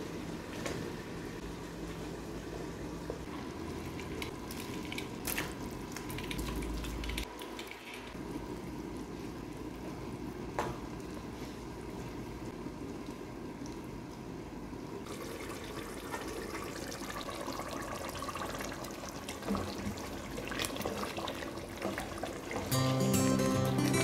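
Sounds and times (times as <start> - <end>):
stew simmering: 0.9 - 24.0.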